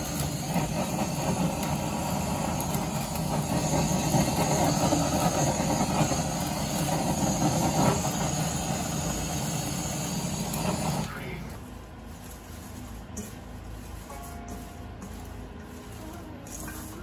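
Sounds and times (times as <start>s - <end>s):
blowtorch hissing: 0.0s - 14.2s, 15.0s - 17.0s.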